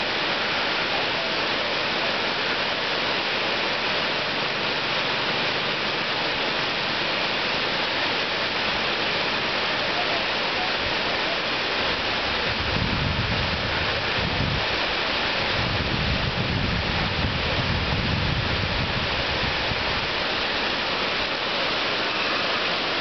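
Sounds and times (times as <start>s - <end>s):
water rushing over weir: 0.0s - 23.0s.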